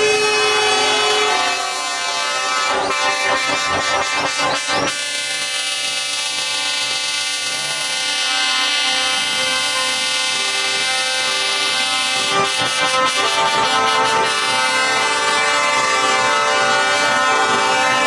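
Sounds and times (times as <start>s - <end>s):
truck air horns: 0.0s - 18.0s.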